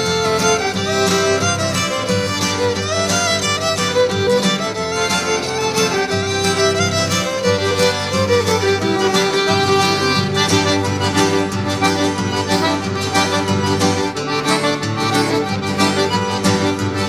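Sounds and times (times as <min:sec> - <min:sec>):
instrumental music led by fiddle: 0:00.0 - 0:17.0.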